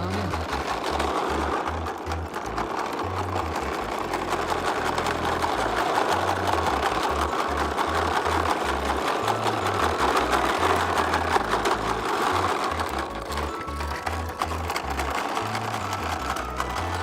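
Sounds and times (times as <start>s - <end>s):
toy lawn mower plastic clattering: 0.0s - 17.0s.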